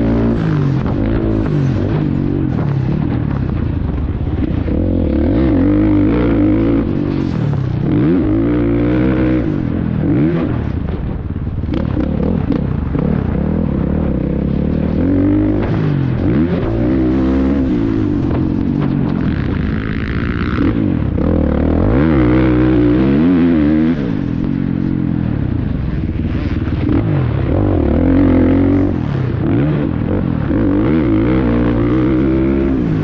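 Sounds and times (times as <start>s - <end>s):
two-stroke motorbike engine revving: 0.0s - 33.0s.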